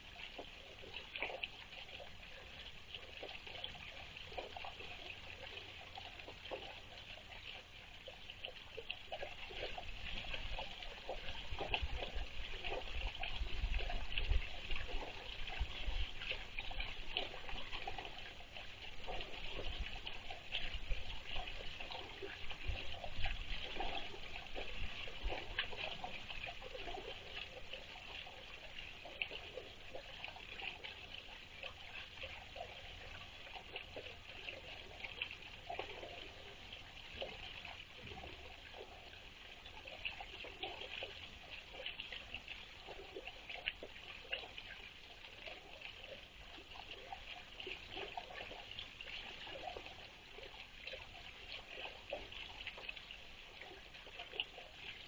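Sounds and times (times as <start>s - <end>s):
water trickling into pond: 0.0s - 55.0s.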